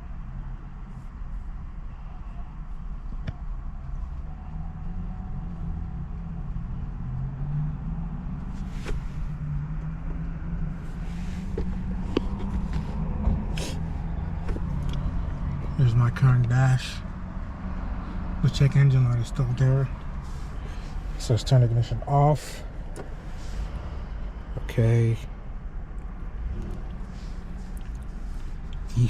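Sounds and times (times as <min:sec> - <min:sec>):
vehicle motor rumbling: 0:02.6 - 0:29.0.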